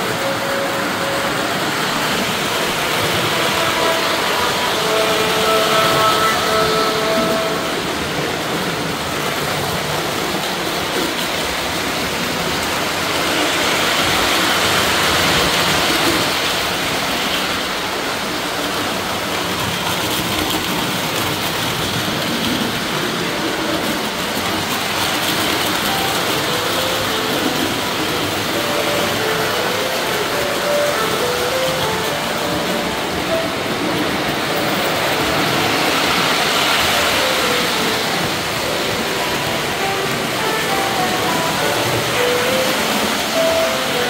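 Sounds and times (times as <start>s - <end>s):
model train rolling on metal track: 0.0s - 44.0s.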